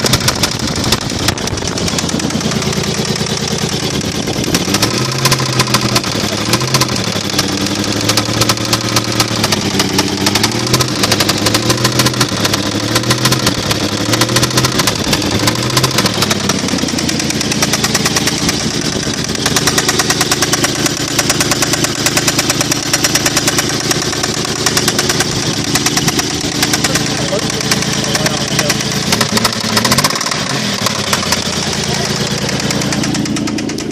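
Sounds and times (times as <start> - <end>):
engine running with knocking: 0.0 - 33.9.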